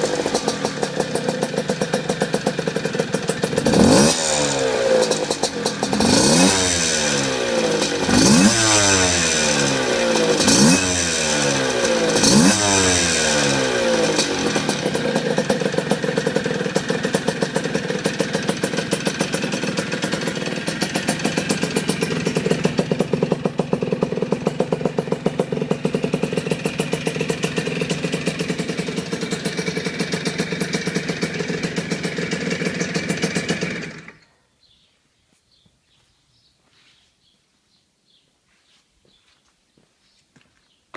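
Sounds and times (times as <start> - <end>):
motorcycle engine revving and idling: 0.0 - 34.3.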